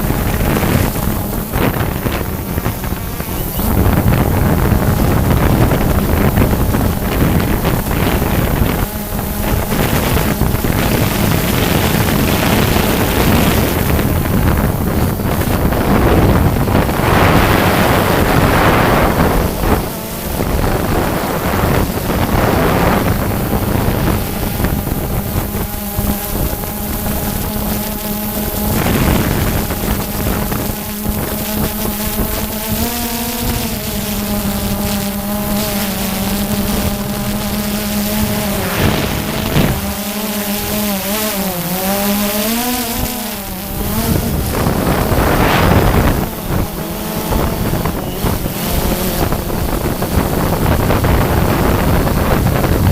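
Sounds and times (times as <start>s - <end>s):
motor drone: 0.0s - 52.9s
wind buffeting microphone: 0.0s - 52.9s.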